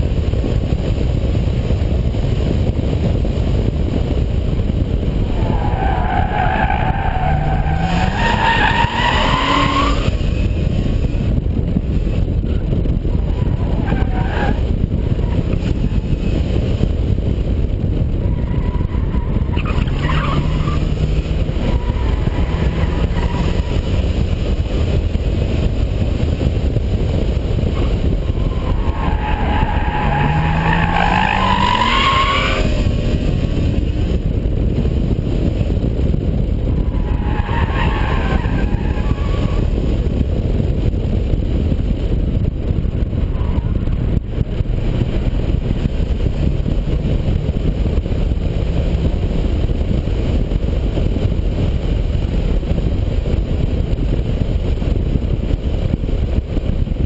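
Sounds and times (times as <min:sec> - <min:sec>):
engine and wind drone: 0:00.0 - 0:57.0.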